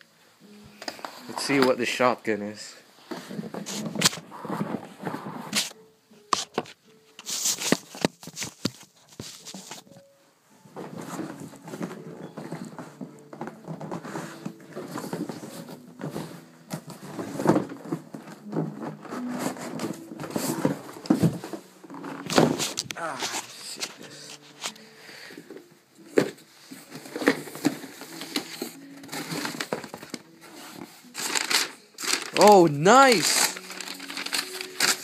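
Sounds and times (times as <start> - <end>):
cardboard rustling and scraping: 3.0 - 10.0, 10.7 - 35.0.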